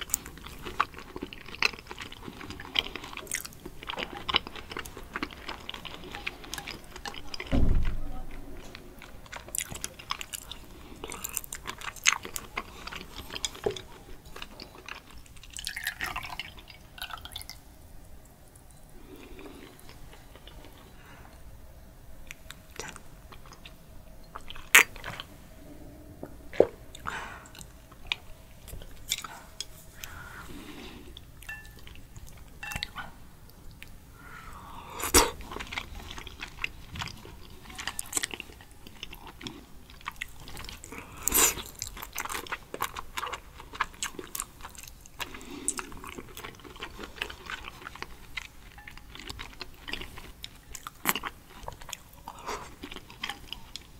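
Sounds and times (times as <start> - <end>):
wet chewing and mouth noises: 0.0 - 7.5, 8.6 - 21.4, 22.2 - 53.9.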